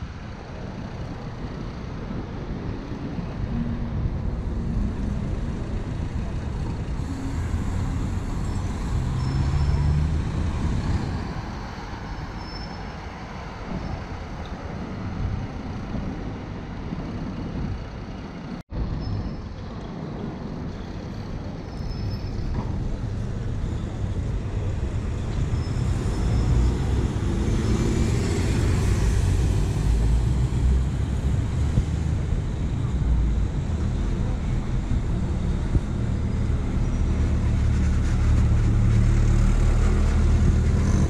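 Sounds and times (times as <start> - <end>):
buses and cars driving past: 0.0 - 41.0.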